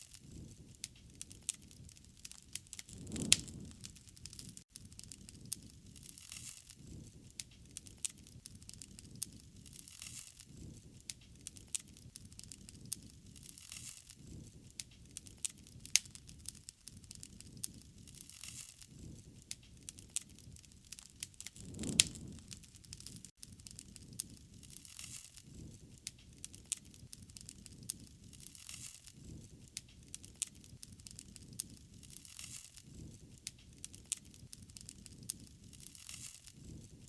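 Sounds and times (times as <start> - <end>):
wood fire crackling and popping: 0.0 - 37.0
low rush of flames: 0.1 - 37.0.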